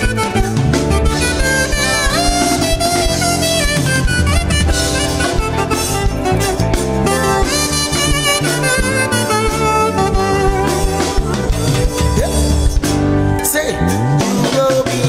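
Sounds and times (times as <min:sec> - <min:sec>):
alto saxophone solo: 0:00.0 - 0:12.2
band with bass and drums: 0:00.0 - 0:15.0.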